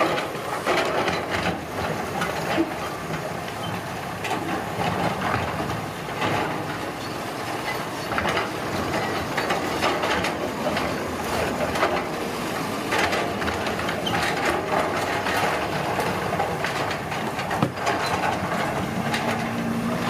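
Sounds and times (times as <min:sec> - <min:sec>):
construction machinery clattering: 0:00.0 - 0:20.0.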